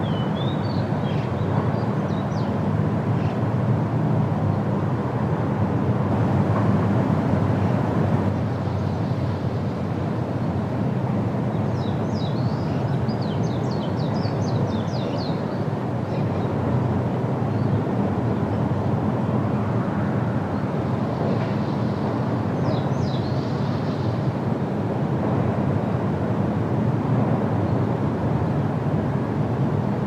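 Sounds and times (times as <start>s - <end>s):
wind rushing through trees: 0.0s - 30.0s.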